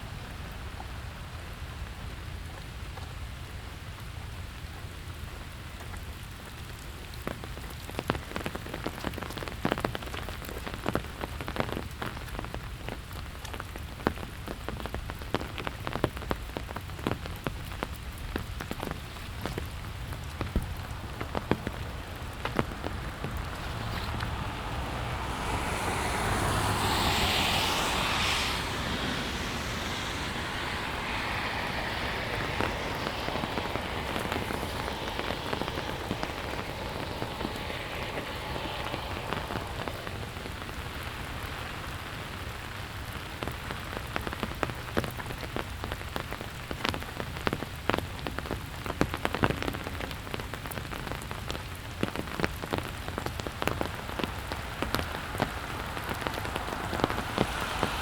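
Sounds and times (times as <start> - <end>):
raindrops ticking close by: 0.0 - 58.0
steady rain falling: 0.0 - 58.0.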